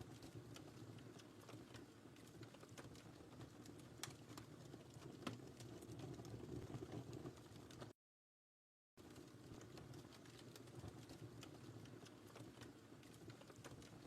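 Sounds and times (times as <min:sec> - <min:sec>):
low rumble of flames: 0:00.0 - 0:07.9, 0:09.0 - 0:14.0
wood fire crackling: 0:00.0 - 0:07.9, 0:09.0 - 0:14.0.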